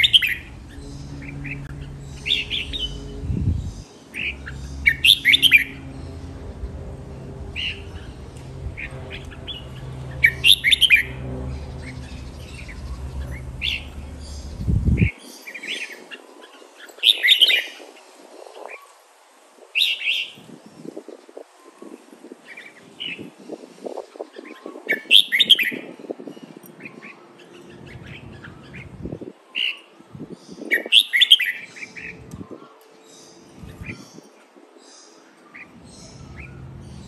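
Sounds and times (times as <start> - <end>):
bird singing: 0.0 - 18.9, 19.8 - 37.0.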